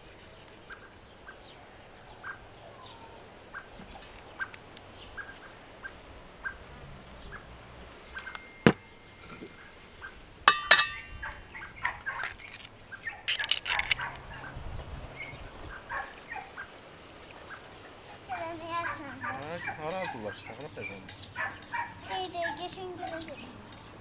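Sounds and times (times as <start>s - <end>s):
faint bird chirping: 0.0s - 24.0s.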